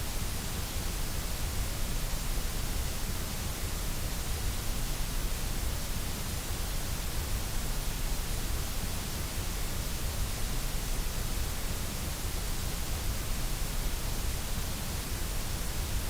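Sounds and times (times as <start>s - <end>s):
white noise hiss: 0.0s - 16.0s.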